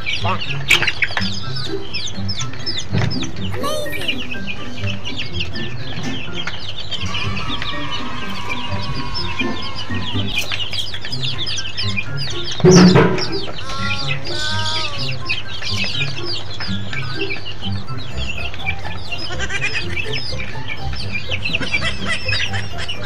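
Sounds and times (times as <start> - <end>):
young chickens peeping: 0.0 - 23.0.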